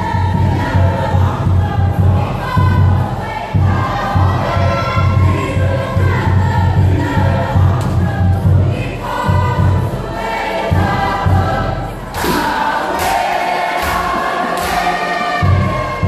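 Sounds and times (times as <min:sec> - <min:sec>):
deep drum beat: 0:00.0 - 0:16.0
group singing in chorus: 0:00.0 - 0:16.0.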